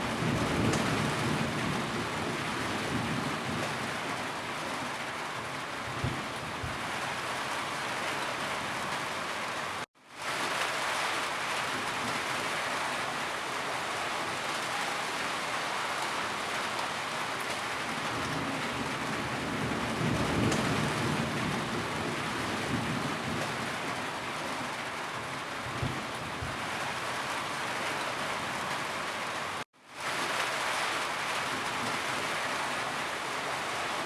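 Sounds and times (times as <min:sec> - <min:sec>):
steady rainfall: 0:00.0 - 0:34.0.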